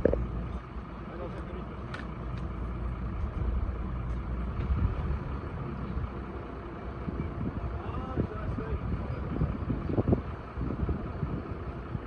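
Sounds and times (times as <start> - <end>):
heavy machine engine rumbling: 0.0 - 12.0.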